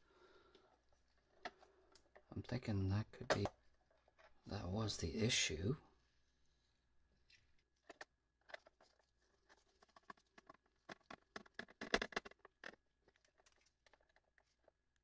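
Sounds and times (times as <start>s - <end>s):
gloved hands handling plastic case: 0.5s - 4.8s, 6.6s - 15.0s.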